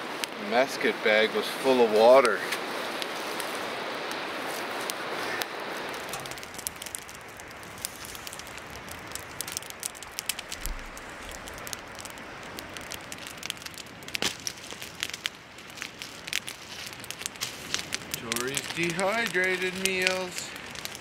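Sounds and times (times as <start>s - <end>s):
campfire crackling and popping: 0.0s - 21.0s
steady rushing hiss: 0.0s - 21.0s.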